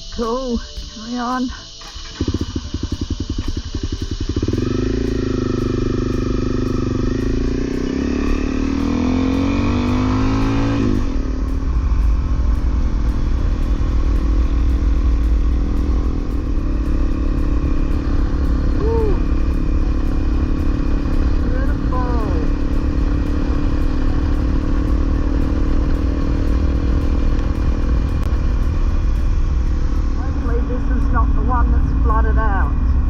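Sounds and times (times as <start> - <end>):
road noise: 0.0 - 33.0
wind noise: 0.0 - 33.0
motorcycle engine revving: 1.0 - 33.0.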